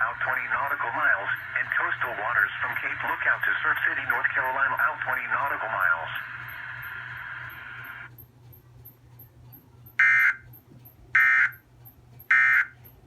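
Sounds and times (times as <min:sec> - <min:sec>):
harsh buzzing data tones: 0:00.0 - 0:08.3, 0:09.9 - 0:10.6, 0:11.2 - 0:13.0.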